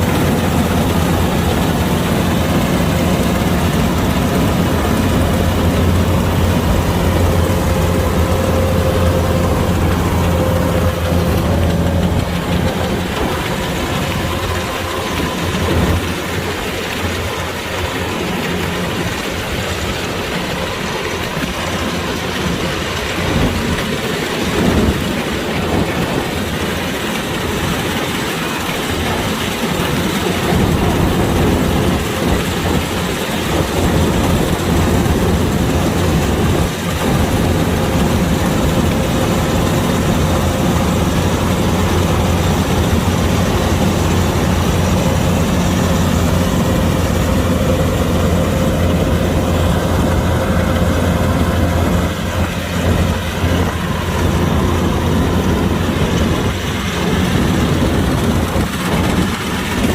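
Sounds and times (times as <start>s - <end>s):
combine harvester running: 0.0s - 59.9s.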